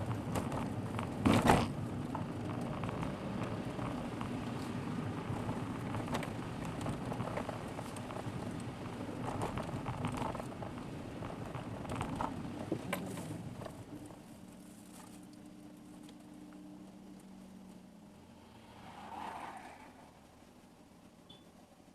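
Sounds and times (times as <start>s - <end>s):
grit crackling under tyres: 0.0s - 21.3s
tyre rumble on rough road: 0.0s - 21.3s.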